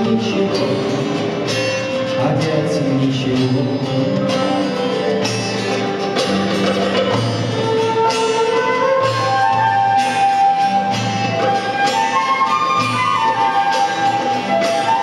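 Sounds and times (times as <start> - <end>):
held melody line: 0.0 - 15.0
percussive beat: 0.0 - 15.0.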